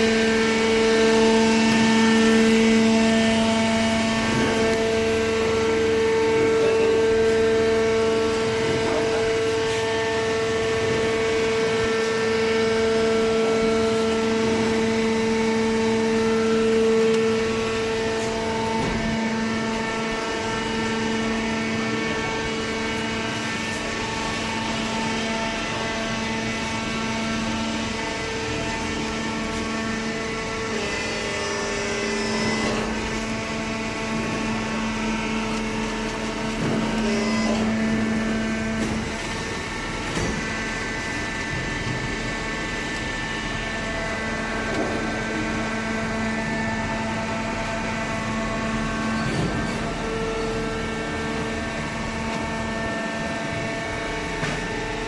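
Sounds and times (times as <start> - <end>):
cardboard baler humming: 0.0 - 55.0.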